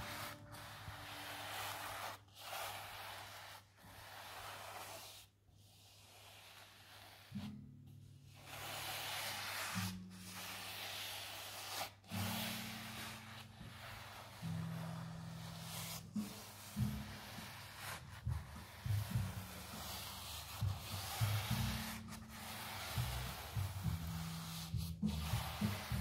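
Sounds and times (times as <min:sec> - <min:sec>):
brush swishing varnish on canvas: 0:00.0 - 0:26.0
soft background music: 0:00.0 - 0:26.0.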